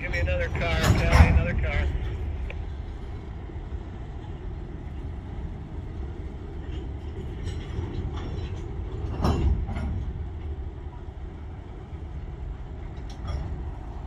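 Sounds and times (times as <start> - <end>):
freight train rolling: 0.0 - 14.0.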